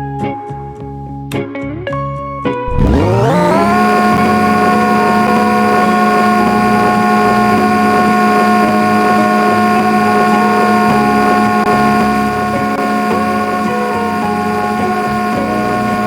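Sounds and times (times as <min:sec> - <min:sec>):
motor whine spinning up: 0:02.7 - 0:16.0.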